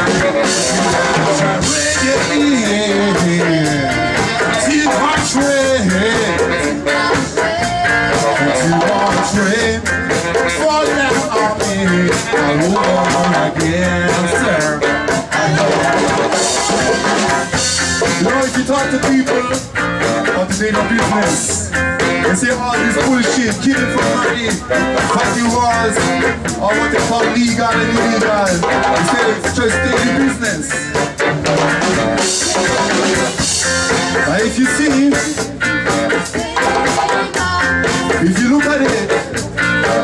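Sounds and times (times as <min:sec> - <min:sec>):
live band playing: 0:00.0 - 0:40.0.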